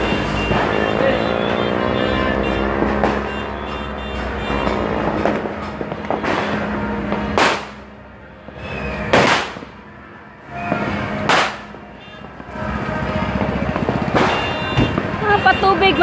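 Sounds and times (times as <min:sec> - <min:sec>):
fireworks bangs: 0:00.0 - 0:09.8, 0:10.5 - 0:16.0.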